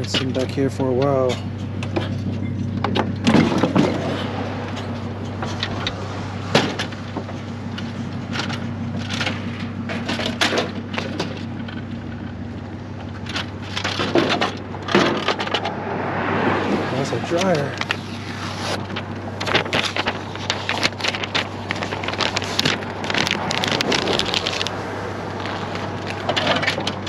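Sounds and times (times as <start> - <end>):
hand truck clanking and rattling: 0.0 - 27.0
steady low hum: 0.0 - 27.0.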